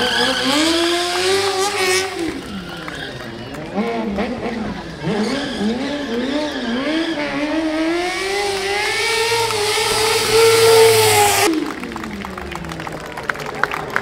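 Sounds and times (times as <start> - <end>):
motorcycle engine revving: 0.0 - 12.7.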